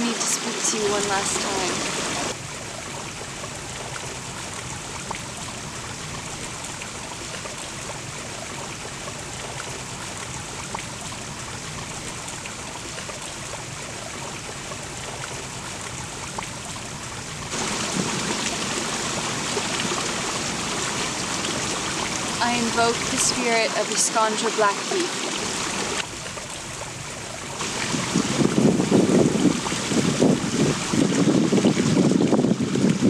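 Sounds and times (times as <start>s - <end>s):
running water trickling: 0.0s - 33.0s.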